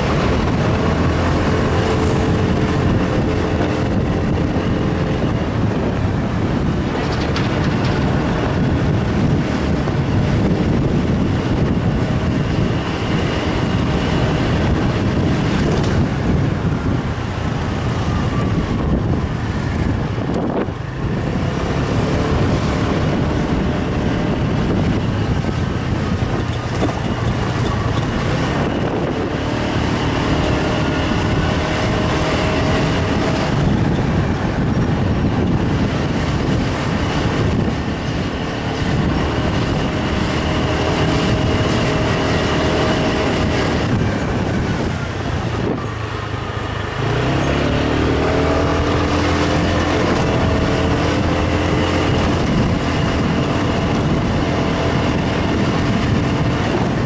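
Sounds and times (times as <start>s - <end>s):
vehicle engine running: 0.0s - 57.0s
wind and road noise: 0.0s - 57.0s.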